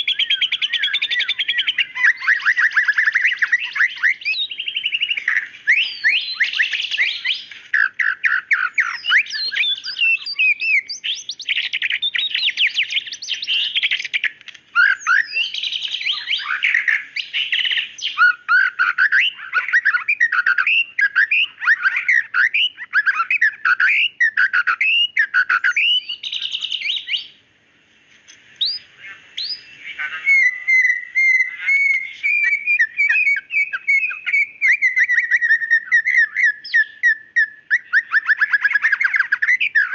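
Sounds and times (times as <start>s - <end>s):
bird singing whistled notes: 0.0s - 27.4s, 28.3s - 39.9s
bird trilling: 0.0s - 27.4s, 28.3s - 39.9s.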